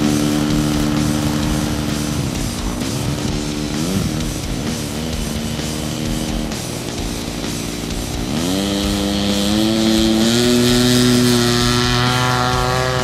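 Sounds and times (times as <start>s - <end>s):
model airplane engine throttling up: 0.0s - 13.0s.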